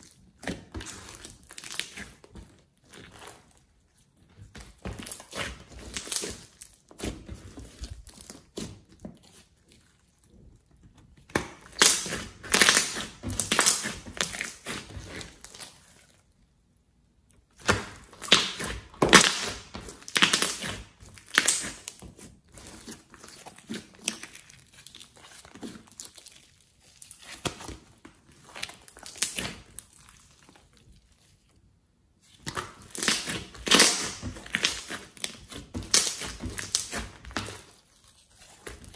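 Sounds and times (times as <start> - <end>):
slime crackling and popping: 0.0 - 3.8, 4.5 - 10.3, 11.1 - 16.4, 17.4 - 31.6, 32.2 - 38.9.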